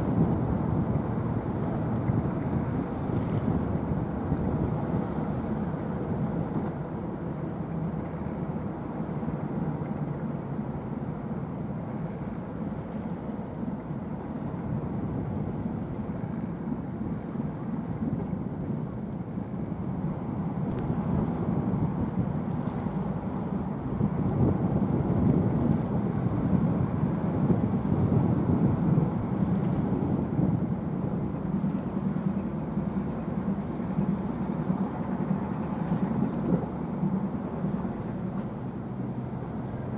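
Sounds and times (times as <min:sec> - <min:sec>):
cargo ship low rumble: 0:00.0 - 0:39.9.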